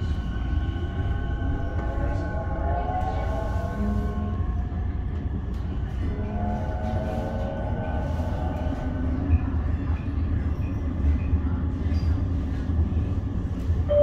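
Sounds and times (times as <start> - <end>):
steel wheels rumbling on rails: 0.0 - 14.0.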